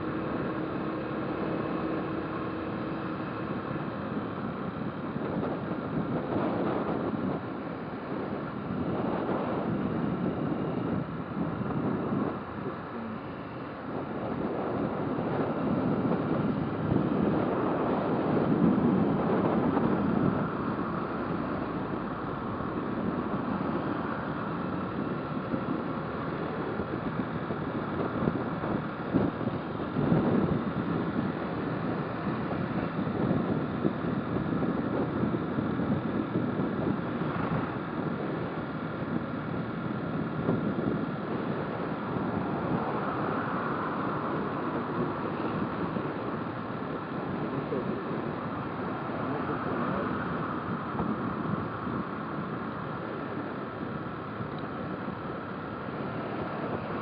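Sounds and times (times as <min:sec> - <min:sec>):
motorcycle engine and road noise: 0:00.0 - 0:57.0
wind rushing over microphone: 0:00.0 - 0:57.0.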